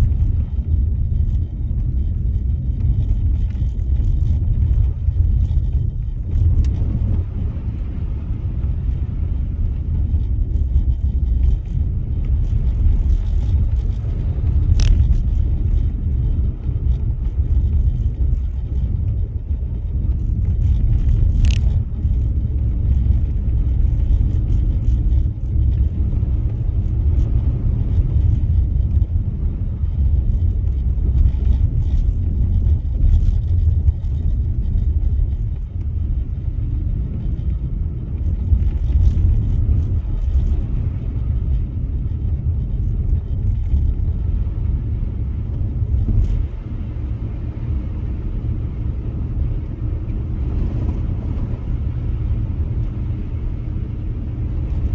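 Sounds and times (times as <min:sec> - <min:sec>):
car engine rumble: 0:00.0 - 0:54.9
tyres on snowy road: 0:00.0 - 0:54.9.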